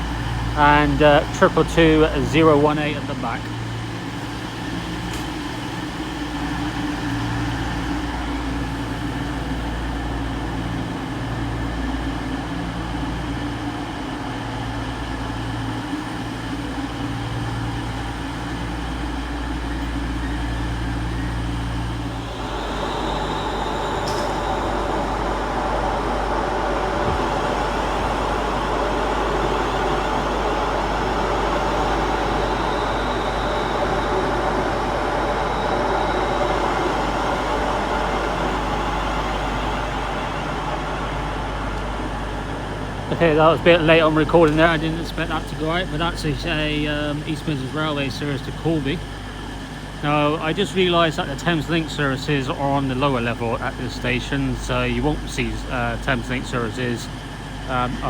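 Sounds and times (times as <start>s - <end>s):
diesel train engine idling: 0.0s - 58.0s
train powering away with whine: 0.0s - 58.0s.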